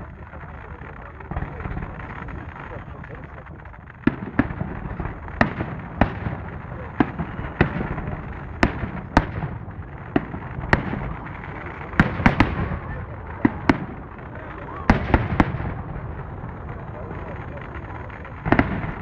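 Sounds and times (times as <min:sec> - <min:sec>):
fireworks barrage rumble: 0:00.0 - 0:19.0.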